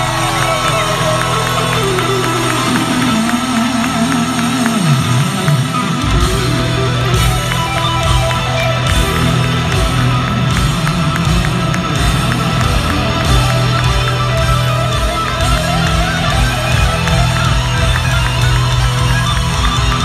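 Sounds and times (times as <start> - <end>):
live heavy metal band: 0.0 - 20.0.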